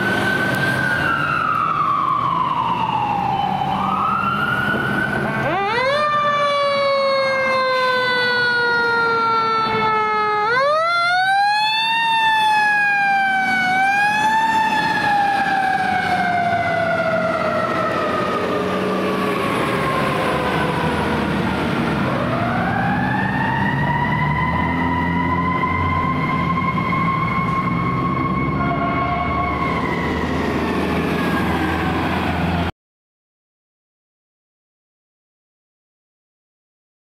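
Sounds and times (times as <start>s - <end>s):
fire truck siren wailing: 0.0s - 32.7s.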